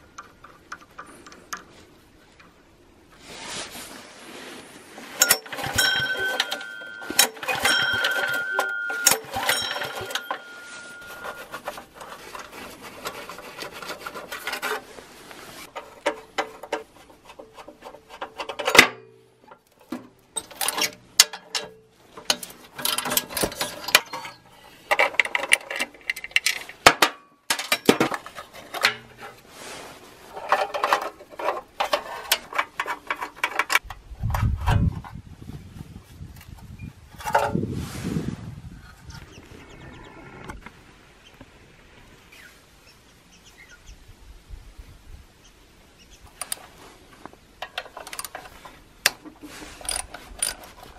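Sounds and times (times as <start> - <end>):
hand tools on metal parts: 0.0 - 35.2, 36.3 - 37.7, 46.2 - 50.9.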